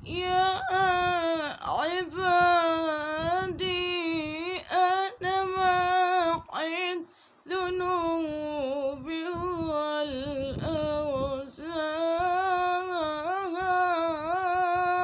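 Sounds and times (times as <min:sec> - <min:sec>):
person singing melismatic phrases: 0:00.0 - 0:15.0.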